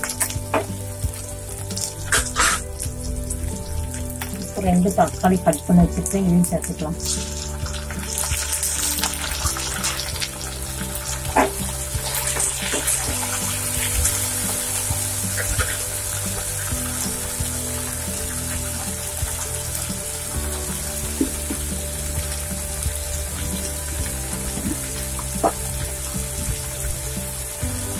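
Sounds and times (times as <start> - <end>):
music with low chords: 0.0 - 27.9
vegetables sizzling in oil: 0.0 - 27.9.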